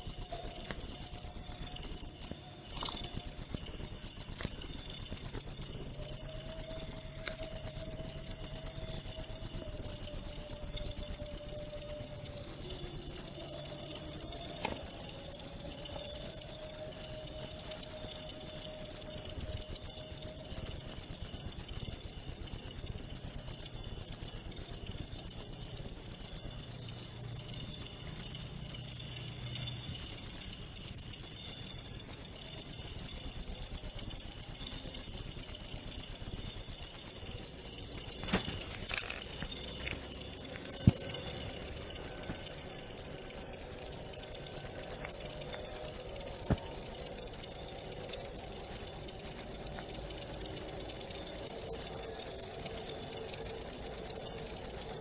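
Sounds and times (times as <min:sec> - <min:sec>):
cricket chirping: 0:00.0 - 0:55.0.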